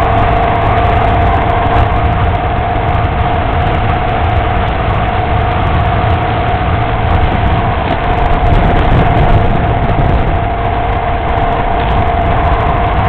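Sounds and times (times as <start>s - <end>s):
motorcycle engine cruising: 0.0s - 13.0s
wind buffeting microphone: 0.0s - 13.0s.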